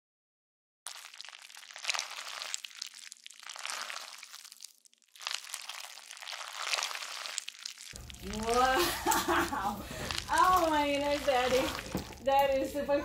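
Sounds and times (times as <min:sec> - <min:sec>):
slime squelching and crackling: 0:00.9 - 0:12.8.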